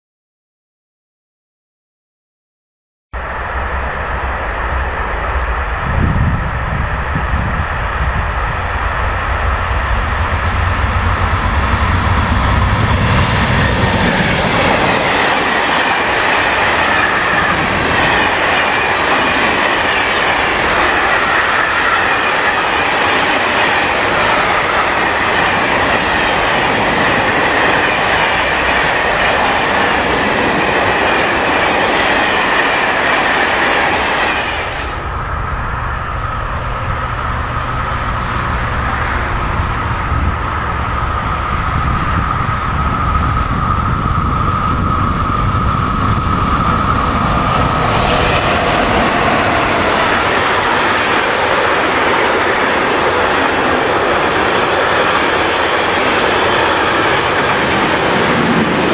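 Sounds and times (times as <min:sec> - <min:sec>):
locomotive rumble: 0:03.2 - 0:58.9.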